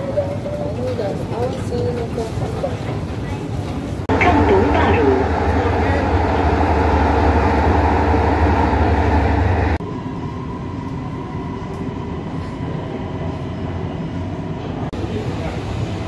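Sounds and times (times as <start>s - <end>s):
metro train running rumble: 0.0s - 16.0s
train cabin hum: 0.0s - 16.0s.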